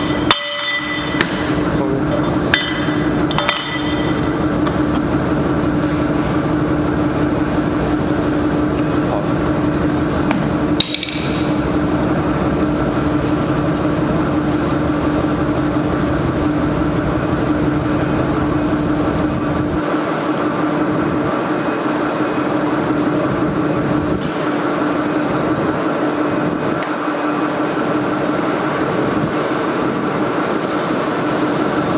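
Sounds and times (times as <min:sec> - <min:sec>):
loud machine hum: 0:00.0 - 0:31.9.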